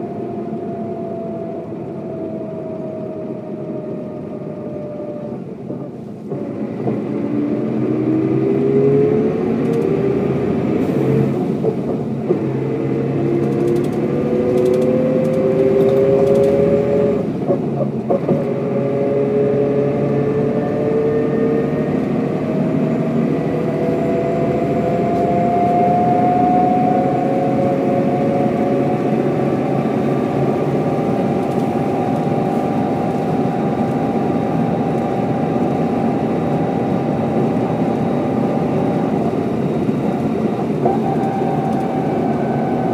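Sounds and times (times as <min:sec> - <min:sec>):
bus engine accelerating: 0:00.0 - 0:42.9.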